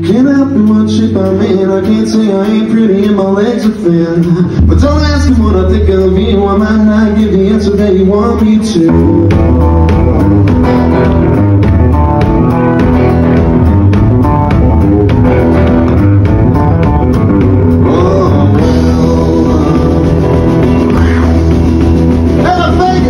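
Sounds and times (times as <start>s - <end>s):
bass guitar: 0.0s - 23.0s
drum kit steady beat: 0.0s - 23.0s.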